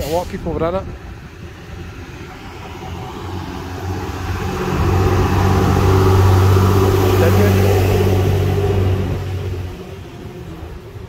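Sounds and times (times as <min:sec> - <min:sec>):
large truck engine passing: 0:00.0 - 0:11.0.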